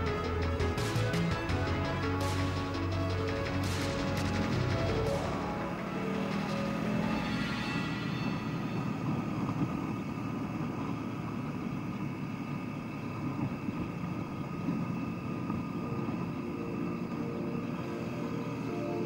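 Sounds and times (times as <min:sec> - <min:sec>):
wind noise: 0:00.0 - 0:18.1
motorcycle engine running: 0:00.0 - 0:19.0.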